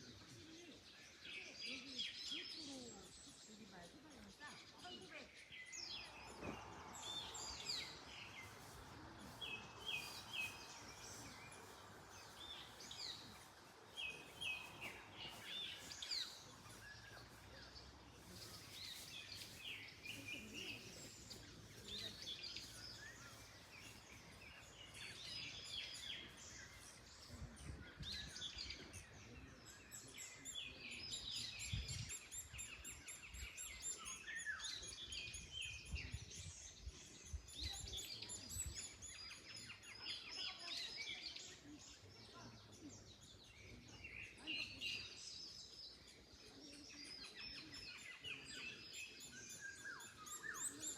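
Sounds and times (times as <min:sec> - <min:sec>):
songbirds chirping and singing: 0:00.0 - 0:50.9
wind in trees: 0:00.0 - 0:50.9.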